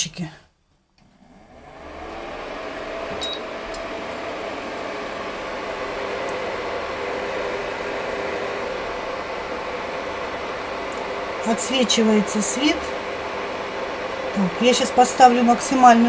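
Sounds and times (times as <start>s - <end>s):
cooktop cooling fan whirring: 0.8s - 16.0s.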